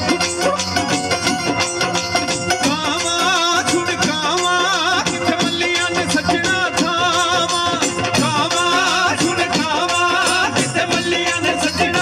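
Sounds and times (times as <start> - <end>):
hand drum and tambourine beat: 0.0 - 12.0.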